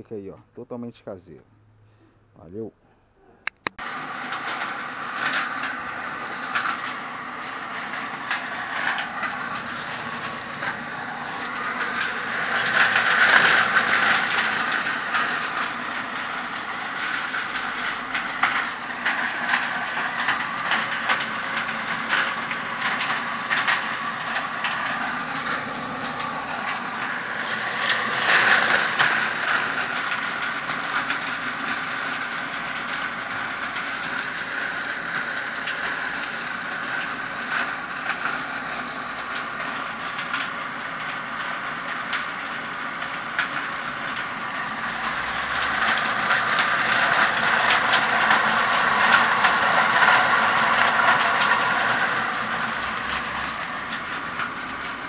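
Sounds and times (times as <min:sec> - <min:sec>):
leaf shredder rattling: 0:03.8 - 0:55.0.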